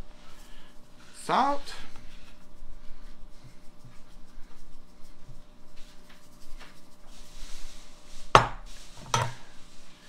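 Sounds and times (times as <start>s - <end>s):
salt shaker shaking: 0.1s - 9.0s.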